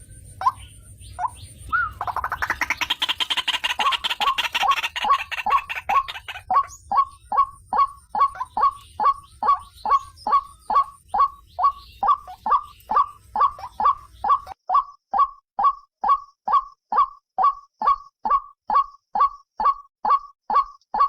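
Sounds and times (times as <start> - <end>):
waterhen calling: 0.0 - 20.7.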